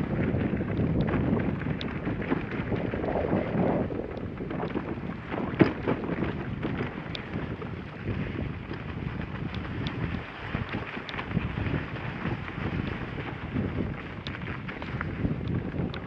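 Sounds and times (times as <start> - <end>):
sled runners scraping snow: 0.0 - 16.0
wind buffeting microphone: 0.0 - 16.0.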